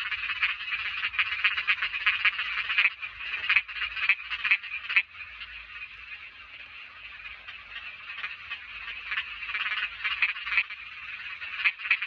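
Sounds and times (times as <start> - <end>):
frogs croaking in chorus: 0.0 - 12.0.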